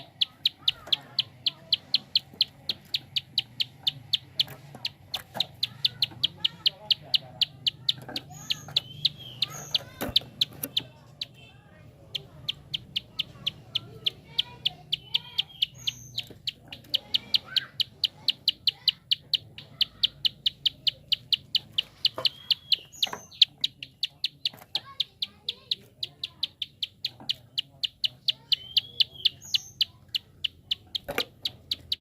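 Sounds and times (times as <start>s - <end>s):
bird clicking call: 0.0s - 11.4s, 12.1s - 32.0s
short high bird chirps: 0.0s - 11.5s, 12.1s - 32.0s.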